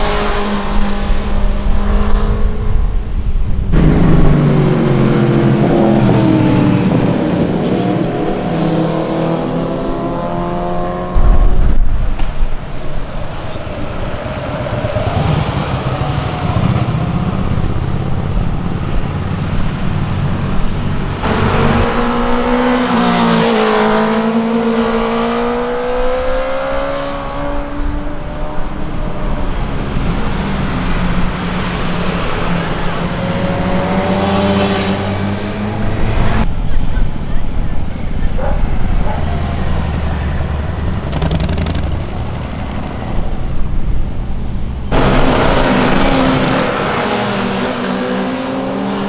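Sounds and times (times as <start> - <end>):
motorcycle engines rumbling: 0.0 - 49.0.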